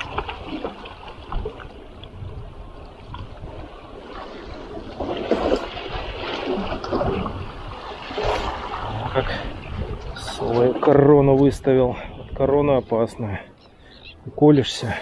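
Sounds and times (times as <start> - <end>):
water splashing and trickling: 0.0 - 13.5.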